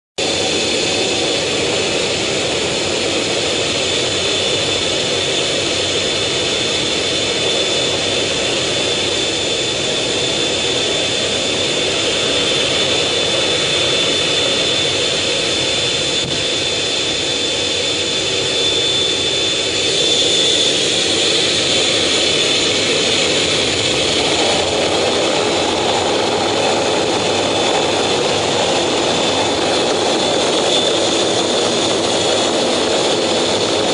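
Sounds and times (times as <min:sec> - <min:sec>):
jet engines rushing and whining: 0:00.2 - 0:33.9.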